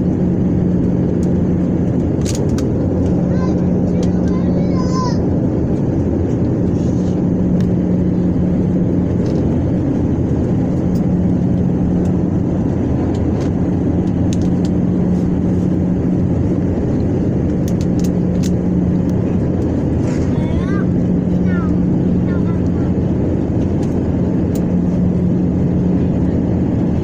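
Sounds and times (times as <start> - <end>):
constant low hum: 0.0 - 27.0
jet engine cabin roar: 0.0 - 27.0.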